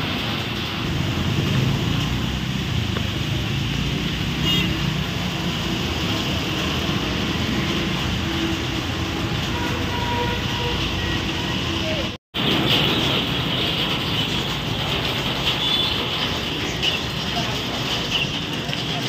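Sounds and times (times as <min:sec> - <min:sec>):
motorbike engines: 0:00.0 - 0:19.0.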